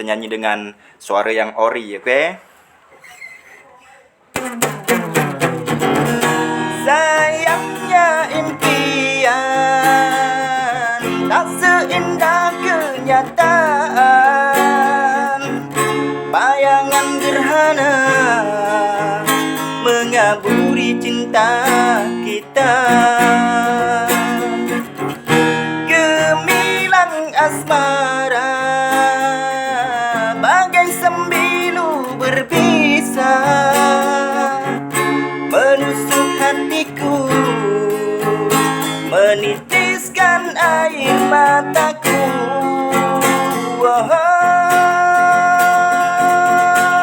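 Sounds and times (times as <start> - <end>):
strummed acoustic guitar: 2.4 - 47.0
man singing a rock ballad: 6.7 - 24.8, 25.8 - 34.9, 35.5 - 47.0.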